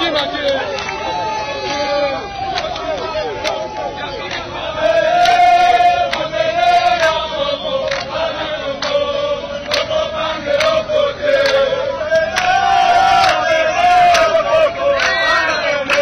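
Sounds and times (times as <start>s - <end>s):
crowd singing in unison: 2.6s - 16.0s.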